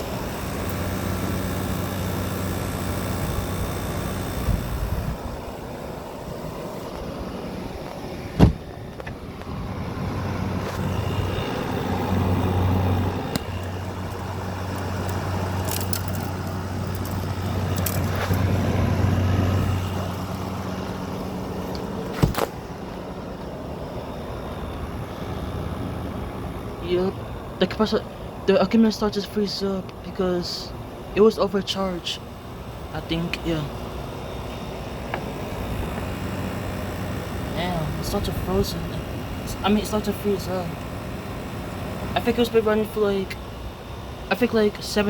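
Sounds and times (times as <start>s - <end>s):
air conditioner compressor hum: 0.0s - 45.0s
air conditioner fan rushing: 0.0s - 45.0s.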